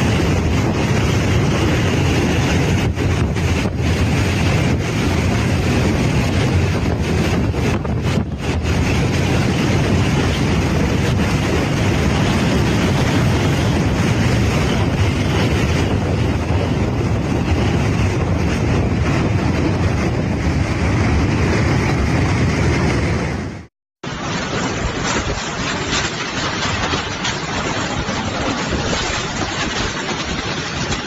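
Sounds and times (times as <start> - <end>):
strong wind buffeting microphone: 0.0 - 31.0.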